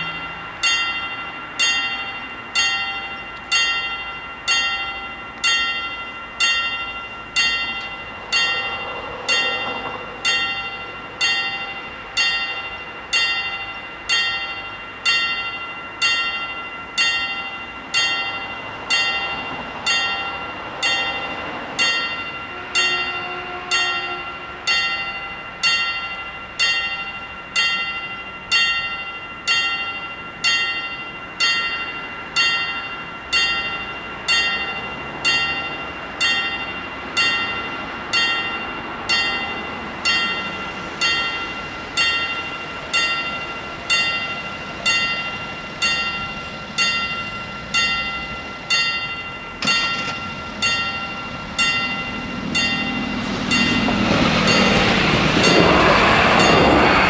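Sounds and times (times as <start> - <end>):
level crossing warning bells: 0.0 - 57.0.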